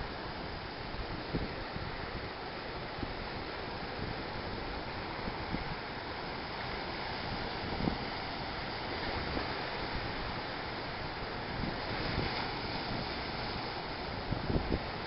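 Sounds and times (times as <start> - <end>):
ocean surf on rocks: 0.0 - 15.0
wind on microphone: 0.9 - 5.9, 7.0 - 15.0.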